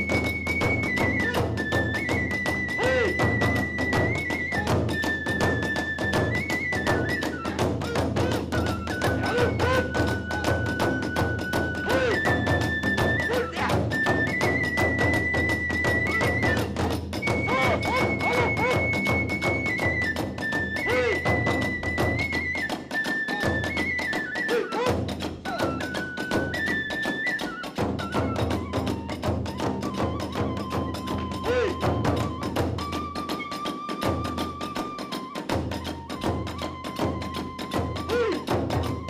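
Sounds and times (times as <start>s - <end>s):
bamboo flute long notes: 0.0s - 39.0s
drums beating fast: 0.0s - 39.0s.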